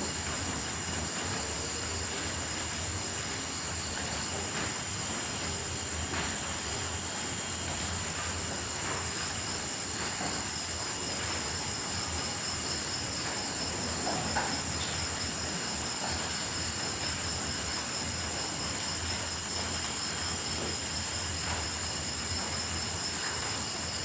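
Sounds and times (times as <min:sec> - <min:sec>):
crickets trilling: 0:00.0 - 0:24.0
steady hiss: 0:00.0 - 0:24.0.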